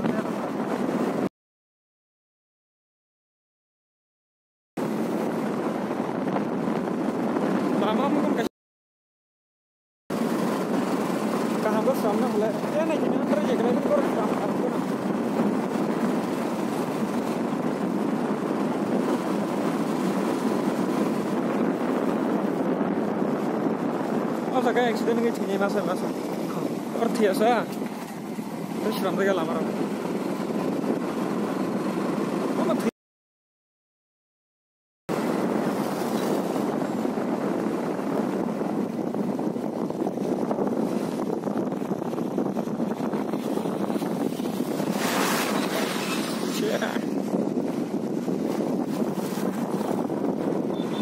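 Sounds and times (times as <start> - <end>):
motorcycle road noise: 0.0 - 1.3, 4.8 - 8.5, 10.1 - 32.9, 35.1 - 51.0
wind noise on microphone: 0.0 - 1.3, 4.8 - 8.5, 10.1 - 32.9, 35.1 - 51.0.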